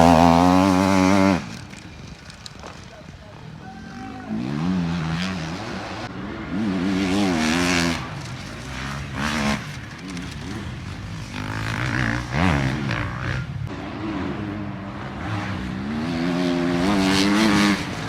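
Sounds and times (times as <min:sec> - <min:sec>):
dirt bike engine revving: 0:00.0 - 0:02.0, 0:04.0 - 0:18.0.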